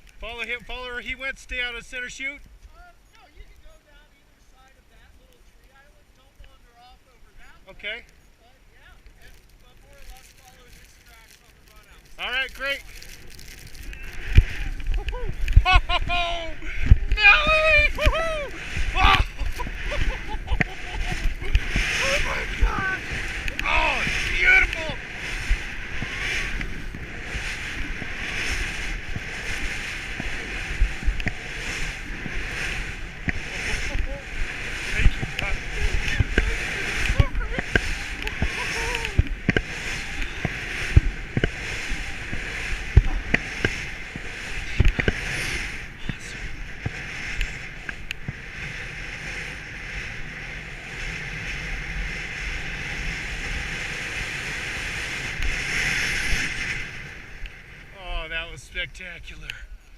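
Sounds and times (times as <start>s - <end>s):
skis whooshing through snow: 0.0s - 59.9s
wind rumble on microphone: 6.3s - 59.9s.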